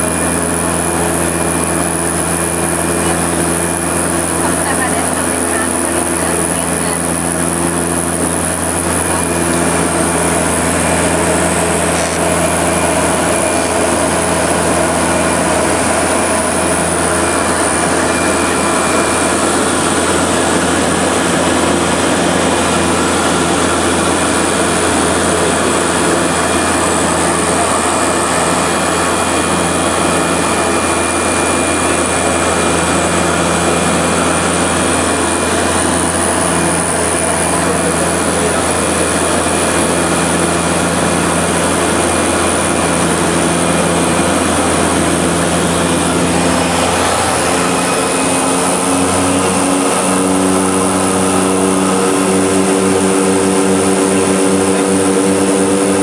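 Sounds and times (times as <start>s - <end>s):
propeller engines droning: 0.0s - 56.0s
airflow noise: 2.9s - 56.0s.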